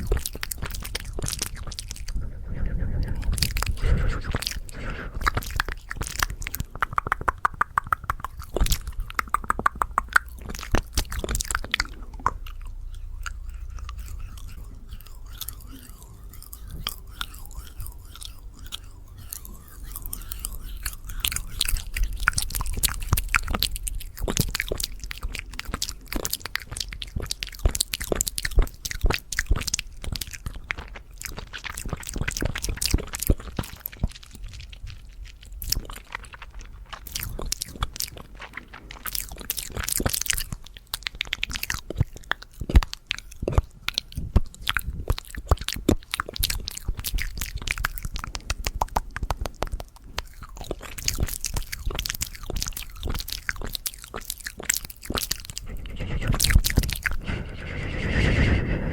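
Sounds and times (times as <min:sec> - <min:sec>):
mouth clicks and smacks: 0:00.0 - 0:58.9.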